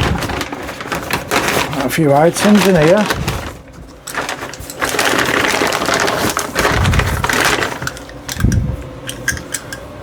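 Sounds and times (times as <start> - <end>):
packaging rustling and crinkling: 0.0 - 8.6.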